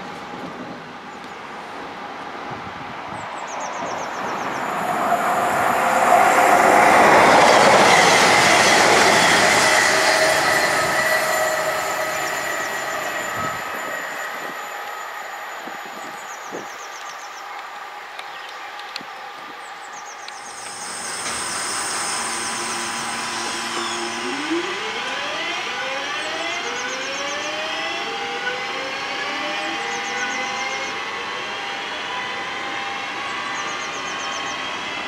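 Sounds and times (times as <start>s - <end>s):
electric train motor whine rising: 4.0s - 18.1s, 20.2s - 35.0s.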